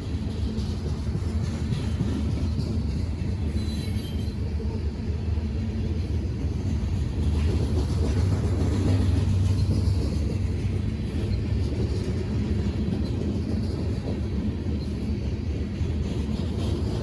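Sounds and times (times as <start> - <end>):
train rumbling by: 0.0 - 17.0.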